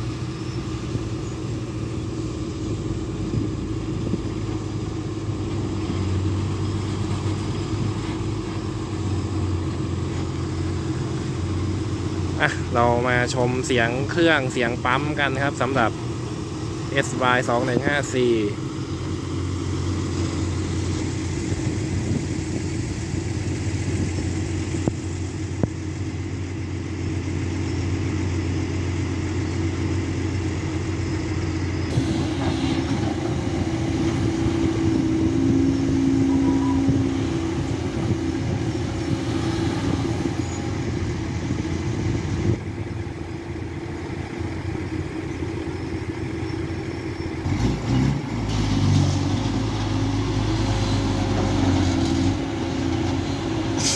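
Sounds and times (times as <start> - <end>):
excavator engine and hydraulics running: 0.0 - 53.9.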